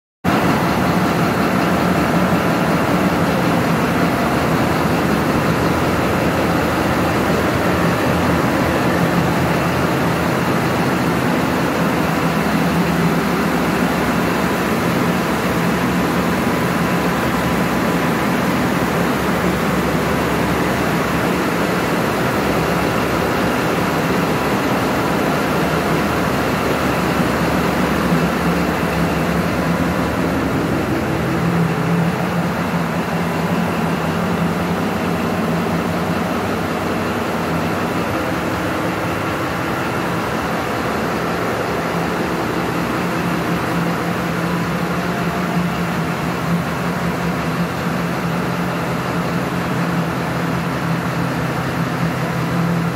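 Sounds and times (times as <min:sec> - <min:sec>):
engine room machinery drone: 0:00.2 - 0:52.9.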